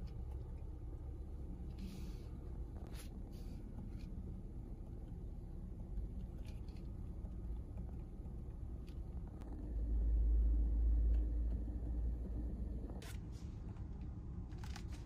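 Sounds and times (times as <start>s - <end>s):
low steady rumble in car cabin: 0.0s - 15.0s.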